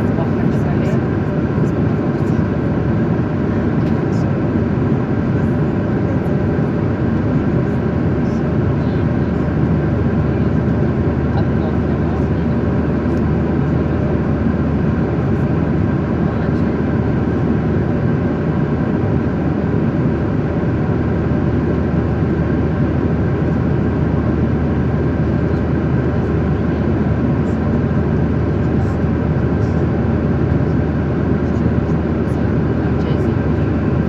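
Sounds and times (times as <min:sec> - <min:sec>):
airliner cabin noise: 0:00.0 - 0:34.0.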